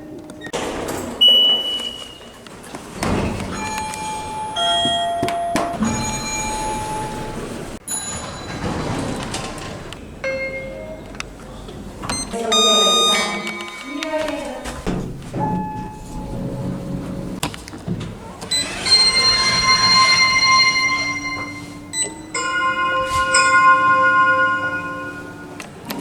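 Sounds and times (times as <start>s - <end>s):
lift and room noise: 0.0s - 26.0s
elevator chimes and beeps: 1.2s - 2.5s, 3.2s - 11.4s, 12.0s - 17.4s, 18.5s - 26.0s.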